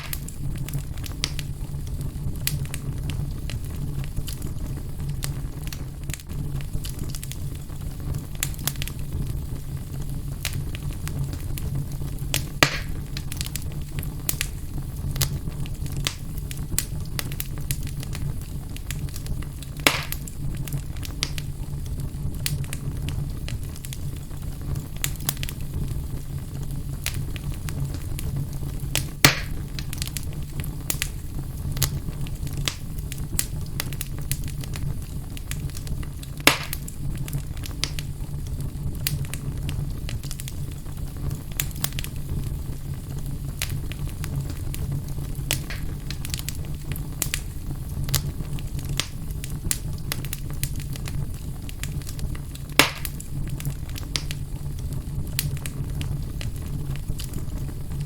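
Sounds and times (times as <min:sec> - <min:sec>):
fire popping loudly: 0:00.0 - 0:58.0
fireplace fire crackling: 0:00.0 - 0:58.0.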